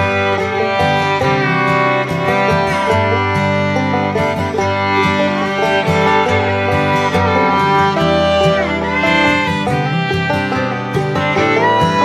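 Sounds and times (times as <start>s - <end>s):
fiddle with guitar accompaniment: 0.0s - 12.0s.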